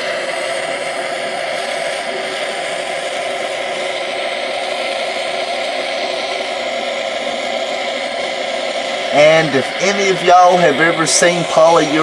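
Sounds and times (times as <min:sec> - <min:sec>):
torch flame rushing: 0:00.0 - 0:12.0.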